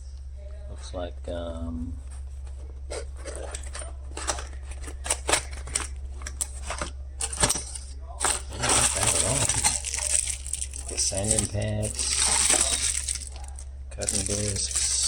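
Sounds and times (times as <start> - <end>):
small accessories clicking and rattling: 2.9 - 15.0.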